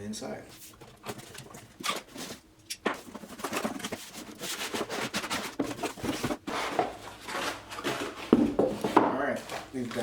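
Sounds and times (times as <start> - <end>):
cardboard rustling: 0.6 - 10.0.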